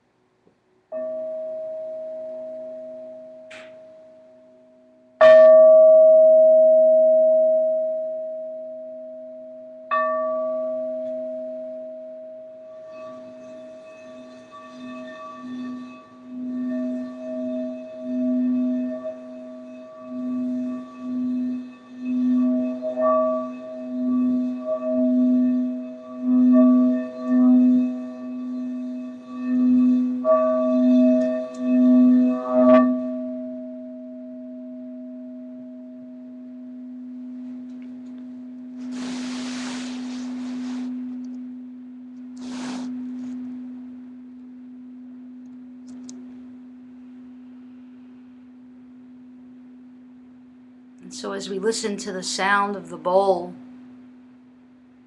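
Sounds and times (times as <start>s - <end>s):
singing bowl steady low tone: 0.0s - 55.0s
singing bowl struck ringing: 0.9s - 55.0s.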